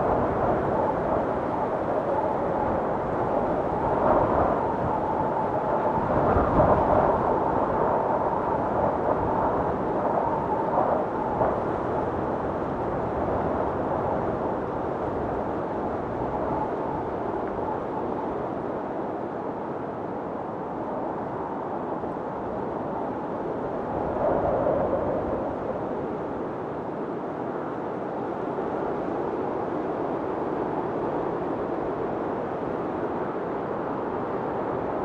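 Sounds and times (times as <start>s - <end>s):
snowstorm wind blowing: 0.0s - 35.0s.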